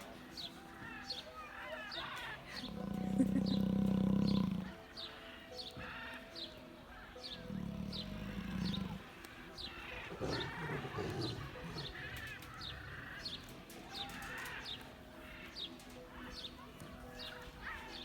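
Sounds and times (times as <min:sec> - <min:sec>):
birds twittering: 0:00.0 - 0:18.0.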